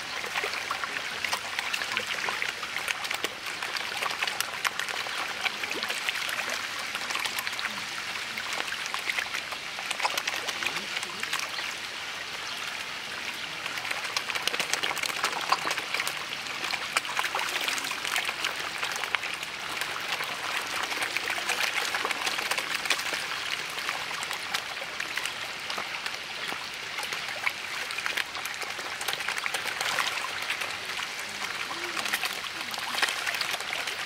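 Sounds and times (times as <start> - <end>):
fish splashing at water surface: 0.0 - 34.0.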